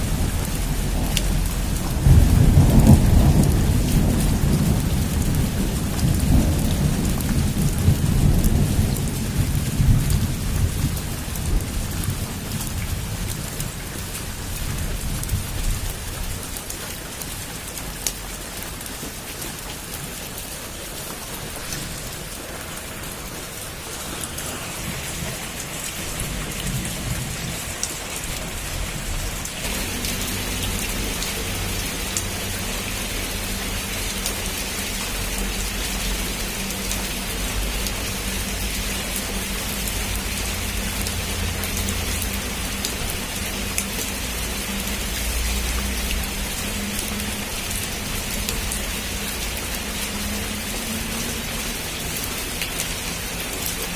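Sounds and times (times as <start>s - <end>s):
thunder rumbling: 0.0s - 16.5s, 21.0s - 49.5s
heavy rain on a rooftop: 0.0s - 53.9s.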